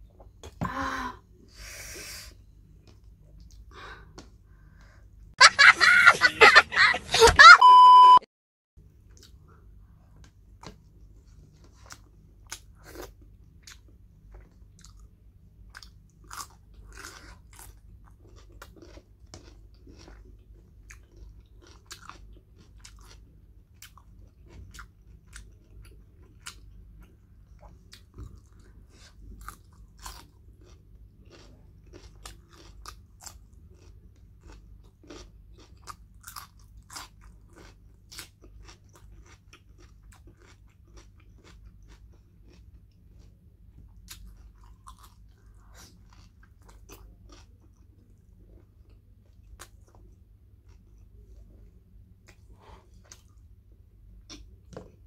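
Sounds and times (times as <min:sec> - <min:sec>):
chewing and crunching food: 0:08.8 - 0:55.0.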